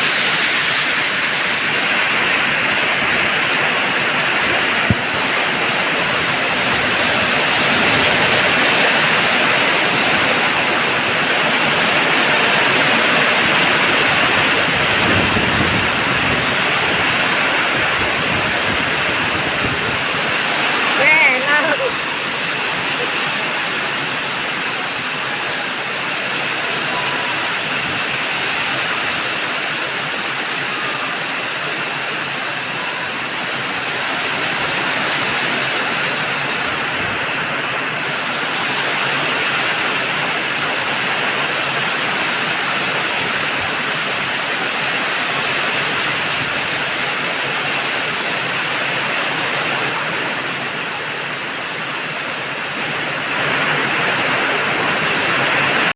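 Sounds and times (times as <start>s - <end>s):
heavy rain in wind: 0.0s - 55.9s.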